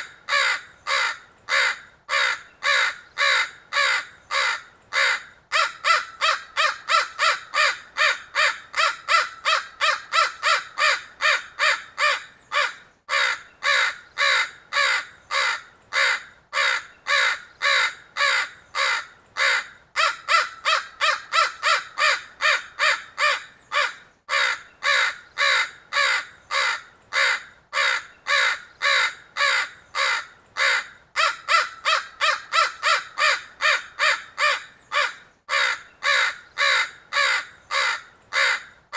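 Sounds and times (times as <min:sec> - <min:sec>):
crows cawing: 0:00.2 - 0:38.8.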